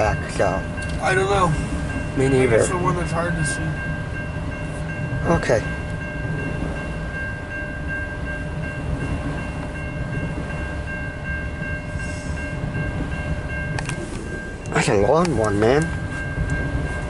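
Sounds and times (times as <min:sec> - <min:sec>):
crossing warning bell: 0:00.0 - 0:17.0
freight train wheels rumbling: 0:00.0 - 0:17.0.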